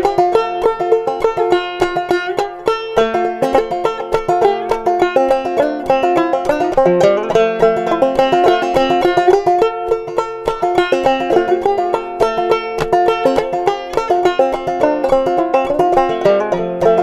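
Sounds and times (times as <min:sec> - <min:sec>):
fast clawhammer banjo tune: 0:00.0 - 0:17.0.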